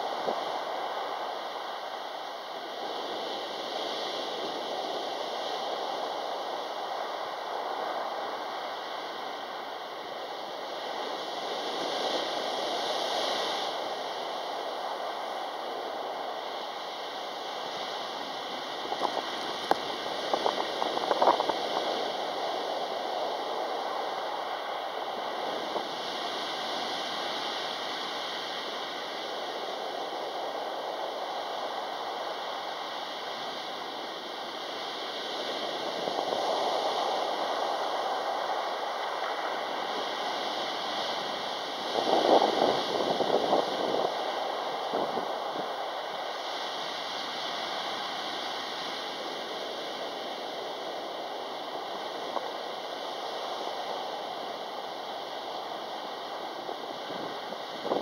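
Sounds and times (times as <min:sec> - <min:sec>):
waves breaking on pebble beach: 0:00.0 - 0:58.0.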